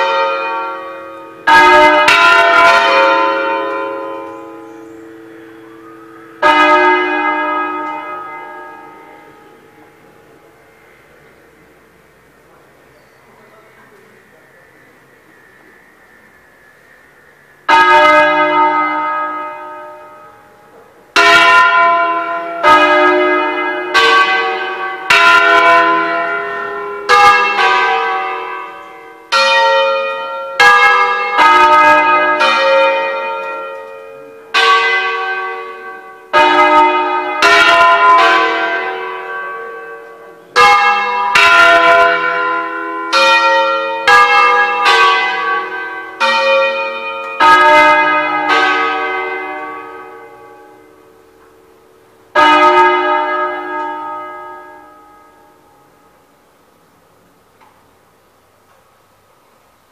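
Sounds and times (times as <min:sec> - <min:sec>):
church bells ringing a tune: 0:00.0 - 0:12.4, 0:17.6 - 0:56.8.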